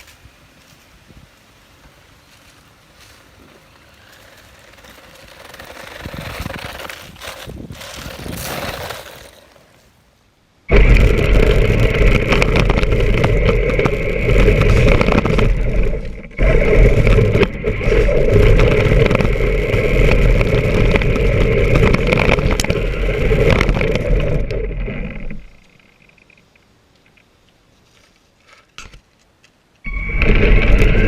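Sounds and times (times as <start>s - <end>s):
tyres on ground: 0.0s - 31.0s.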